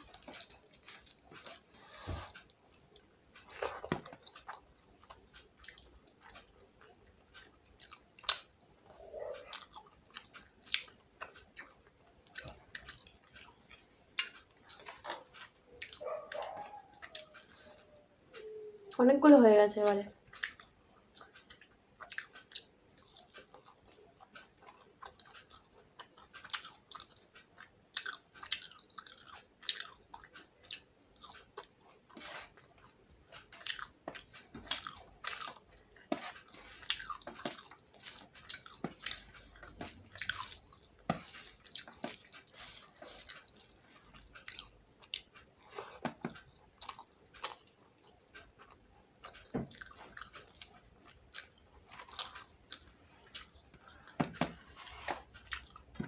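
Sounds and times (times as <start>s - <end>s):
person chewing food: 0.0s - 19.0s, 20.2s - 56.0s.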